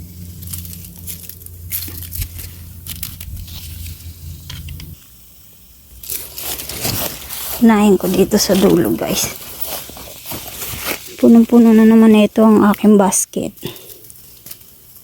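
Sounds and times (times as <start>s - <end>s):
low steady hum: 0.0s - 15.0s
plant leaves rustling and snapping: 0.2s - 5.0s, 6.0s - 12.8s, 13.8s - 15.0s.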